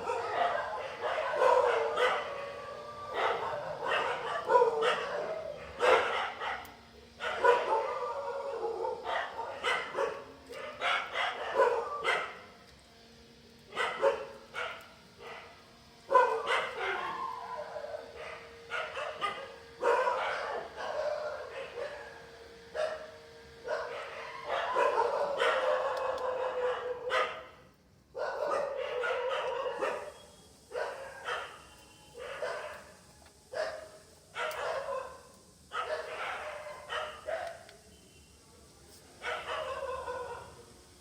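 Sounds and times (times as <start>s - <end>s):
dog barking: 0.0s - 12.5s, 13.7s - 37.7s, 39.2s - 40.6s.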